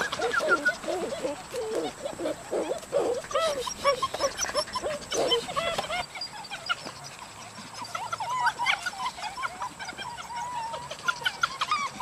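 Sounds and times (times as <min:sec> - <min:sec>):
puppies yipping and squealing: 0:00.0 - 0:12.0.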